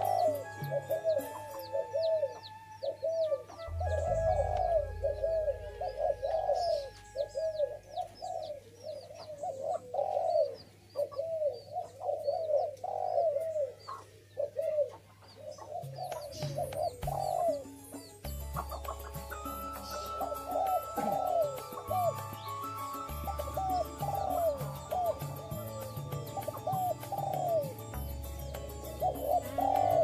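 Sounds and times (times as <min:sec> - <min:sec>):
doves cooing: 0:00.0 - 0:30.0
faint background music: 0:00.0 - 0:30.0
small birds chirping: 0:00.0 - 0:30.0.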